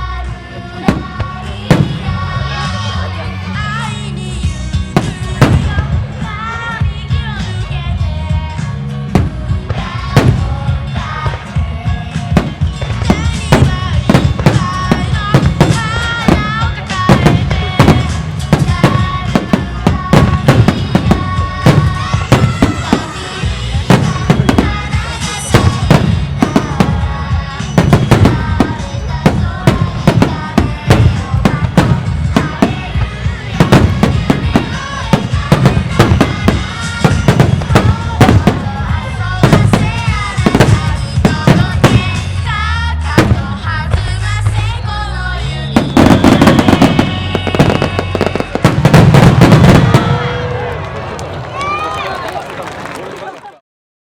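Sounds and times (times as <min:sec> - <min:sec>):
song with singing: 0:00.0 - 0:50.7
fireworks bursting: 0:00.8 - 0:03.0, 0:04.7 - 0:06.6, 0:08.5 - 0:44.9, 0:45.6 - 0:53.5.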